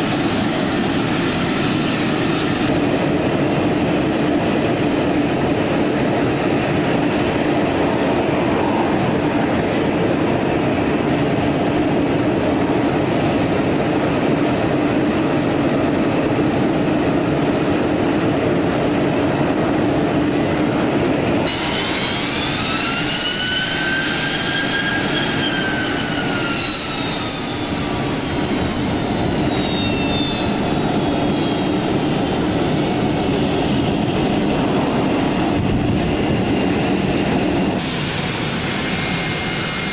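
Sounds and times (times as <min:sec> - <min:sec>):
high jet engine whine: 0:00.0 - 0:39.9
jet engines rumbling: 0:00.0 - 0:39.9.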